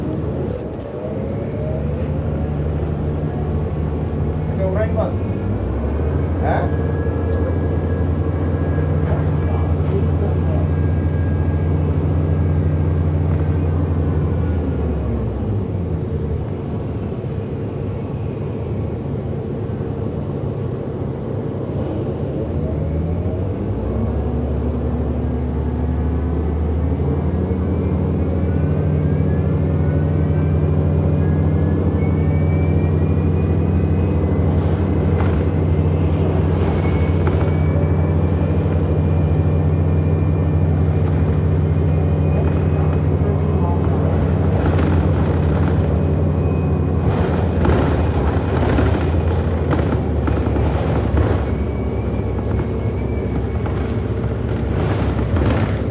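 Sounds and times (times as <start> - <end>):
bus low hum: 0.0 - 55.9.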